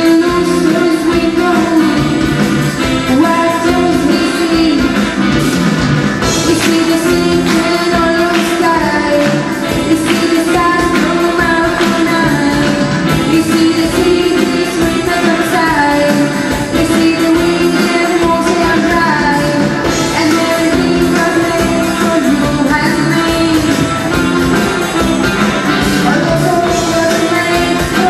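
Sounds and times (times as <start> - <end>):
lead singer singing: 0.0 - 5.4, 6.2 - 28.0
drum kit beat: 0.0 - 28.0
live pop-rock band playing: 0.0 - 28.0.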